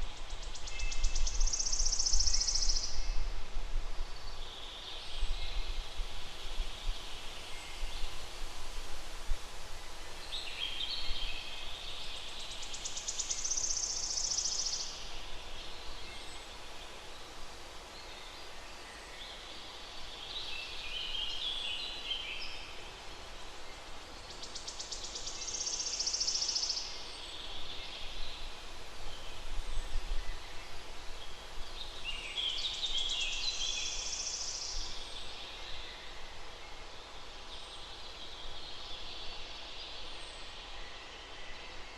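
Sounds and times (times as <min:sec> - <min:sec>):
outdoor background hiss: 0:00.0 - 0:41.9.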